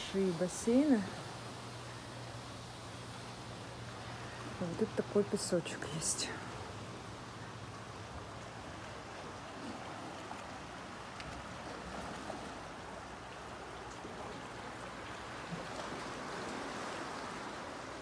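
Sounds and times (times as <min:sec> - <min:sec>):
water rushing and trickling: 0:00.0 - 0:18.0.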